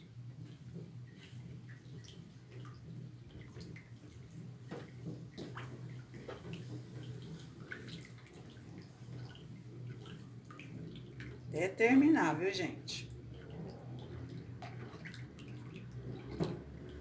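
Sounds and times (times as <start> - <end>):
liquid sloshing and splashing: 0.1 - 11.8, 13.0 - 17.0.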